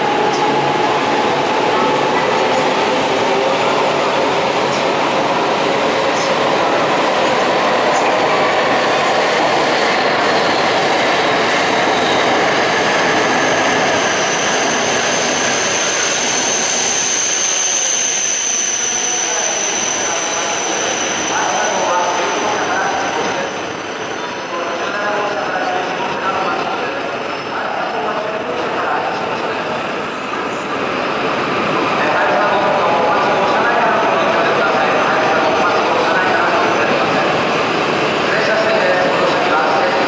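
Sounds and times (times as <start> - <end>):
train rushing: 0.0 - 40.0.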